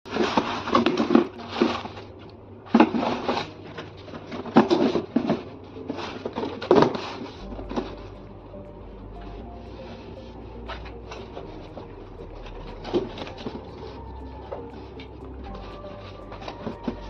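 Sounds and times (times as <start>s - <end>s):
packaging rustling and scraping: 0.1s - 8.3s, 9.2s - 17.0s.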